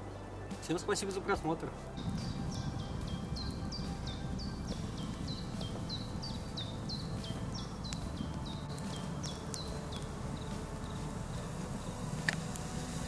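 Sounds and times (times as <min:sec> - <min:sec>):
wind rumbling on microphone: 0:01.5 - 0:13.0
small bird chirping: 0:02.0 - 0:12.9.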